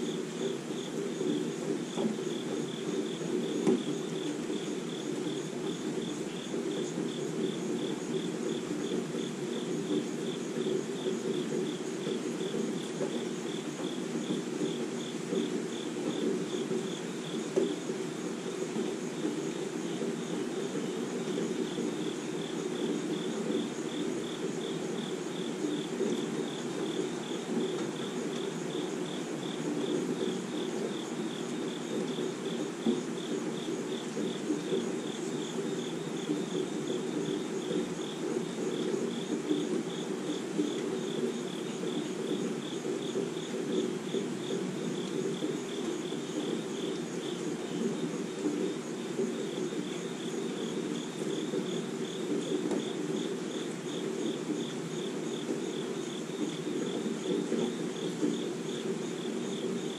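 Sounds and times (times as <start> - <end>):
insect chirping: 0.0 - 59.9
steady rainfall: 0.0 - 59.9.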